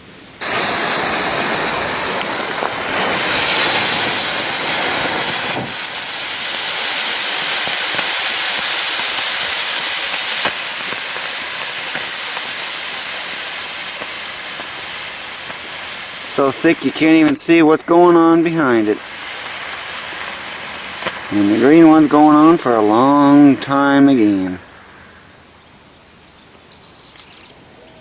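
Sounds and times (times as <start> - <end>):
smoke fireworks hissing: 0.4 - 26.3.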